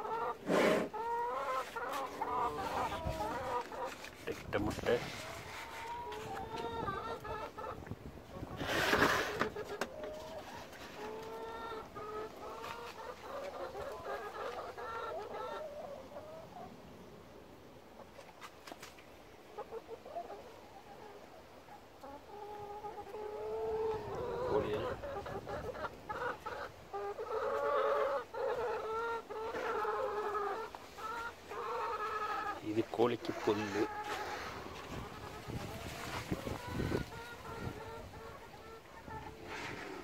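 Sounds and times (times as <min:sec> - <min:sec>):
chickens clucking: 0:00.0 - 0:17.0, 0:17.9 - 0:40.0.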